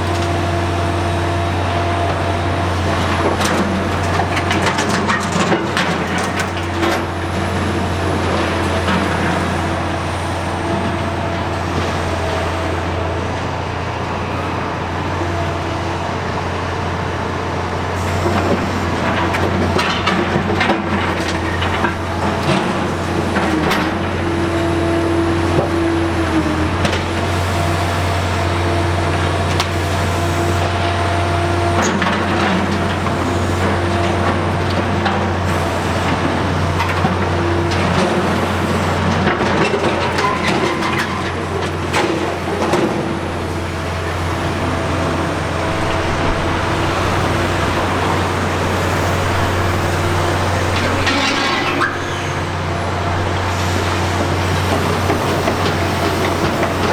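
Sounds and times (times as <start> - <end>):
diesel excavator engine running: 0.0 - 56.9
hydraulic whine: 0.0 - 56.9.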